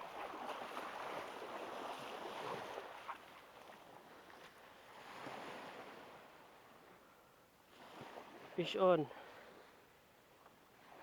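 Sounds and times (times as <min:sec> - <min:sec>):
small waves washing on shore: 0:00.0 - 0:07.0, 0:07.7 - 0:09.8.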